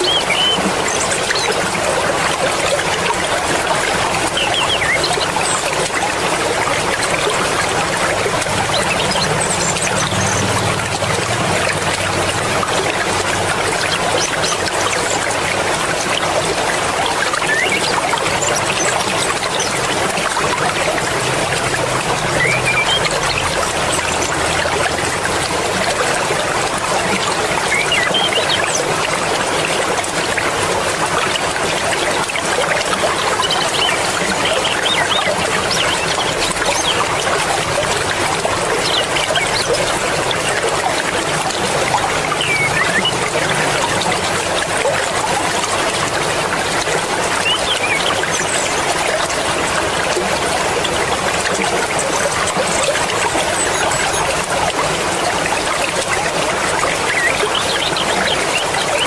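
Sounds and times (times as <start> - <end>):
river rushing and splashing: 0.0 - 59.0.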